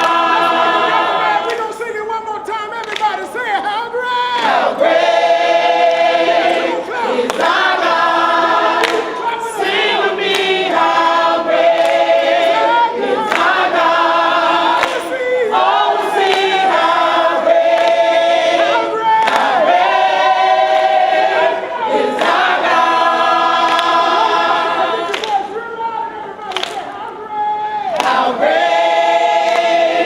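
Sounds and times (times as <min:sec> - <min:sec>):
choir singing: 0:00.0 - 0:01.8, 0:04.4 - 0:25.5, 0:28.0 - 0:30.0.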